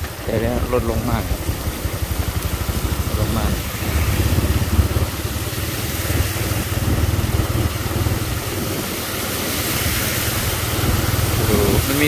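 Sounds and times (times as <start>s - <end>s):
motorcycle engine running: 0.0s - 12.0s
tyres splashing through water: 0.0s - 12.0s.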